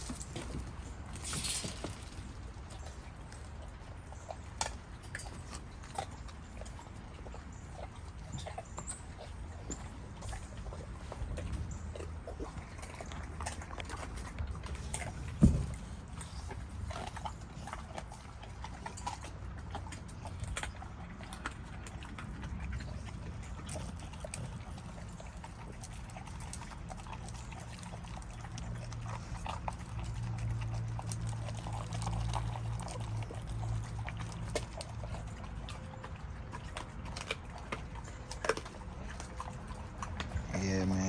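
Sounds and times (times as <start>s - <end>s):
dogs chewing meat: 0.0s - 41.0s.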